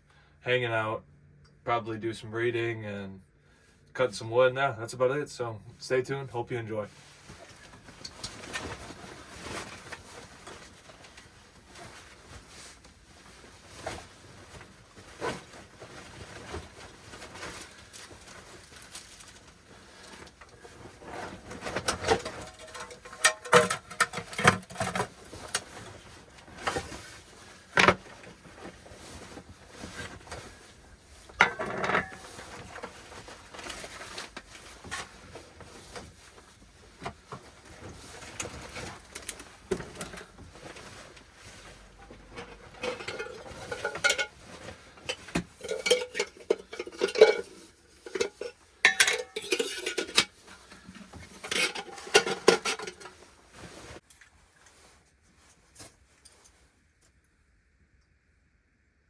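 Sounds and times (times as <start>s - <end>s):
objects being handled: 7.0s - 57.1s.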